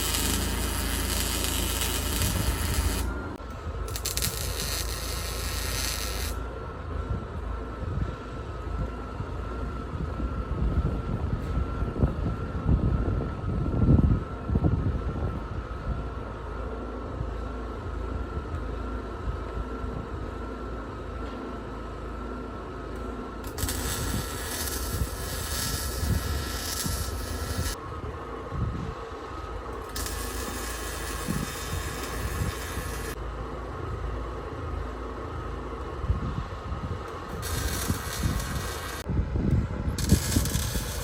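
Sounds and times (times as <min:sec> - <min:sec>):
faint wavering high whine: 0:00.0 - 0:41.0
machine engine rumbling: 0:00.0 - 0:41.0.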